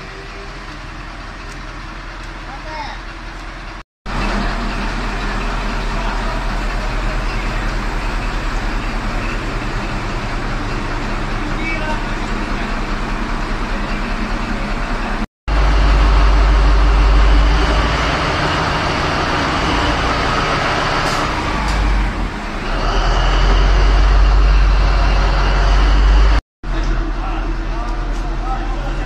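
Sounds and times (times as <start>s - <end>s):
engine rumble in tunnel: 0.0s - 29.0s.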